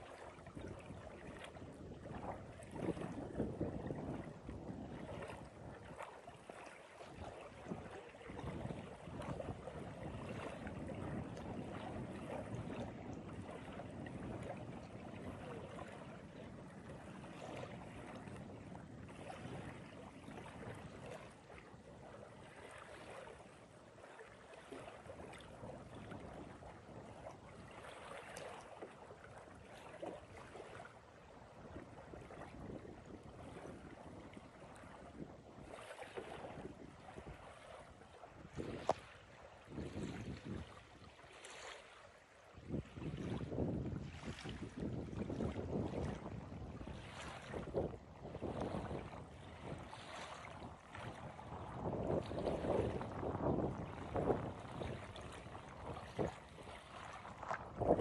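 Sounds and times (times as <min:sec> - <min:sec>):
wind buffeting microphone: 0:00.0 - 0:28.3, 0:29.1 - 0:41.4, 0:42.5 - 0:58.0
small waves lapping: 0:00.0 - 0:58.0.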